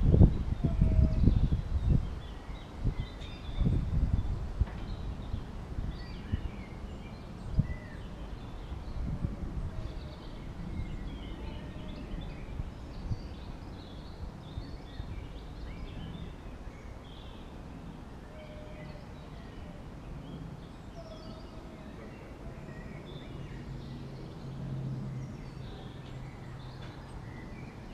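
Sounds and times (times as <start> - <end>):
birds singing and chirping: 0.0 - 27.9.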